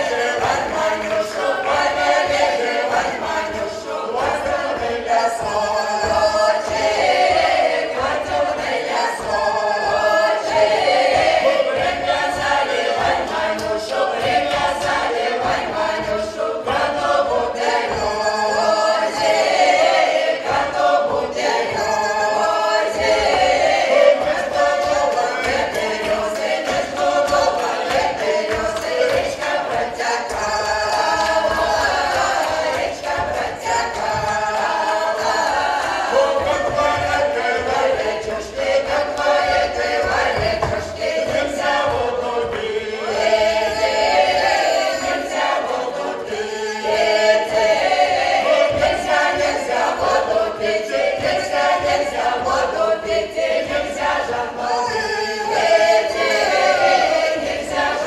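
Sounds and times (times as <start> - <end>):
mixed choir singing folk song: 0.0 - 58.0.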